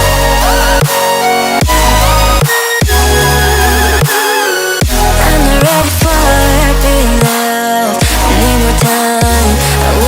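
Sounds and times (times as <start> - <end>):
pop music with synth and bass: 0.0 - 10.0.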